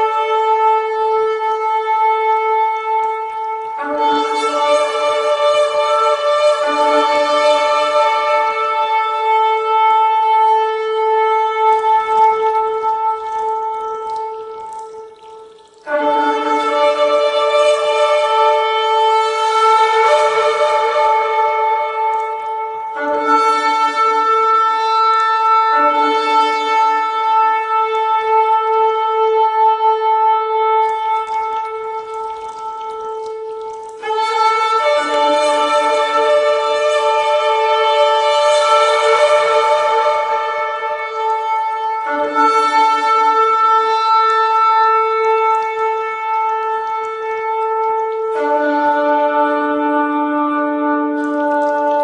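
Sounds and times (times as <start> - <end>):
shofar blasts: 0.0 - 52.0.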